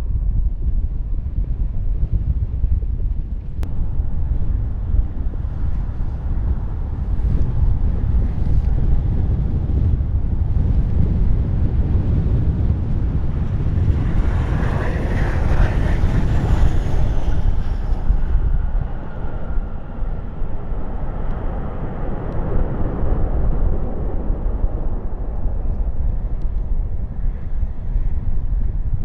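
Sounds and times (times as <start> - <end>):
wind buffeting microphone: 0.0 - 29.0
jet aircraft passing: 3.6 - 29.0.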